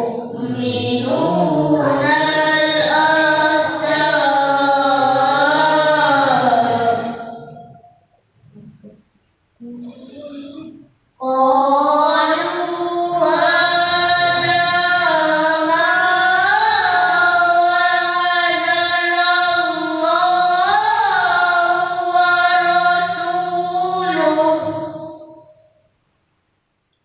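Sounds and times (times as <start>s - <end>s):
child reciting melodically: 0.0s - 7.9s, 9.6s - 25.7s.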